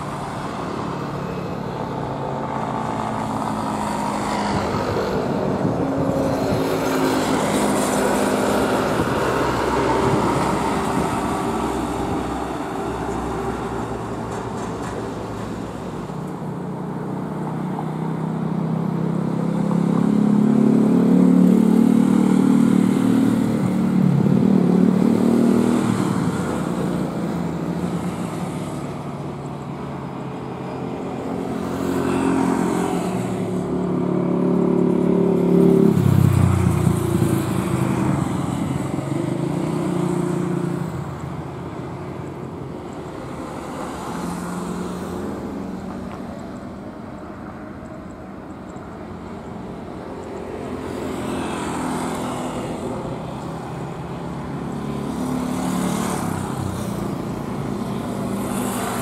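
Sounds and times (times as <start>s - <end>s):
engine noise: 0.0s - 59.0s.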